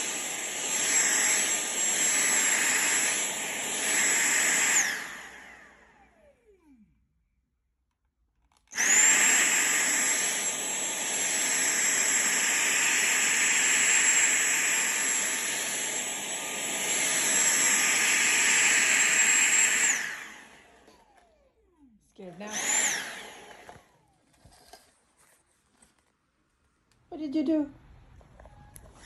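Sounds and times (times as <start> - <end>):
electric appliance motor whining: 0.0 - 7.0, 8.7 - 25.0.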